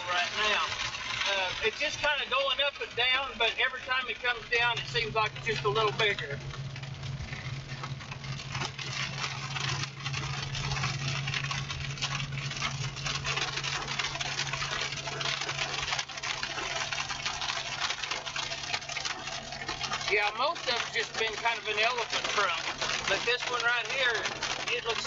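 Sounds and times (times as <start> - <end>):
car engine hum: 0.0 - 25.0
small ticks and knocks: 0.5 - 25.0.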